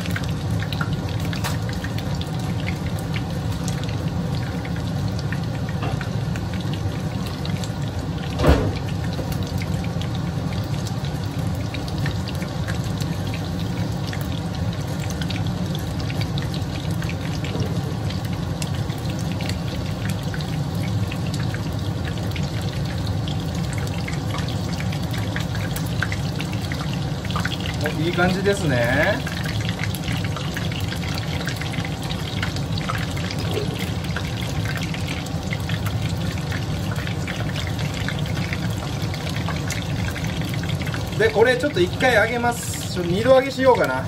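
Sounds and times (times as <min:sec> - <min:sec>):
chicken deep-frying in oil: 0:00.0 - 0:44.0.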